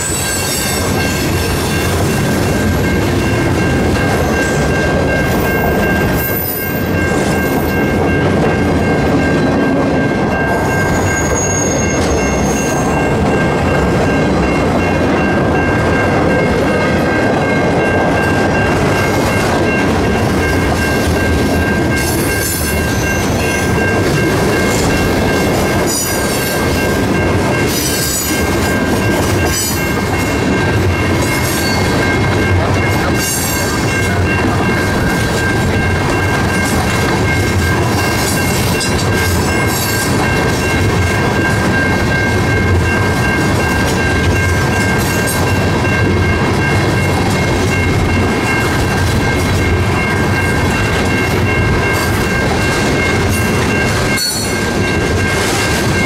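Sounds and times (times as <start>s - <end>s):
crossing warning bell ringing: 0.0s - 56.0s
freight train wheels rumbling: 0.0s - 56.0s.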